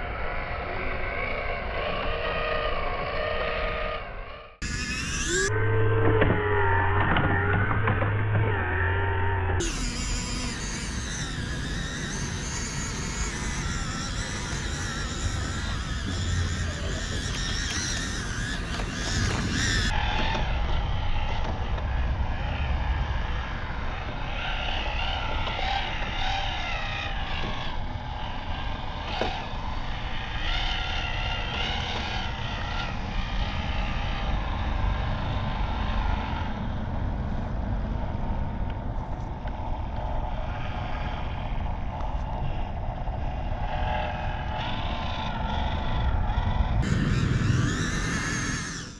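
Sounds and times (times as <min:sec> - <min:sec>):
electric motor and gears whining: 0:00.0 - 0:48.9.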